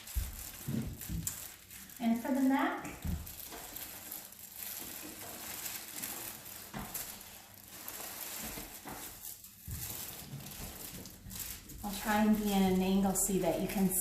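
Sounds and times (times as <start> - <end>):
rustling and handling noise: 0.0 - 14.0.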